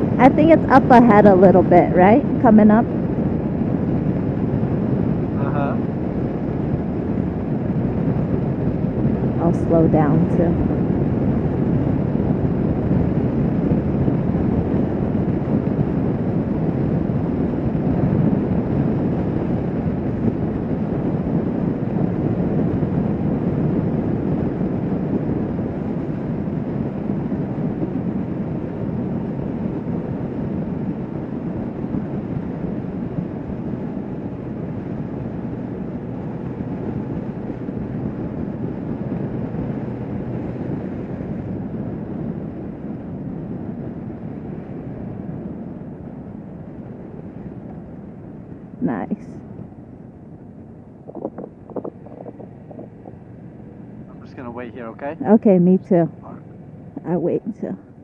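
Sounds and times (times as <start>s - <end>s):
motorcycle engine: 0.0s - 58.0s
wind rush on motorcycle: 0.0s - 58.0s.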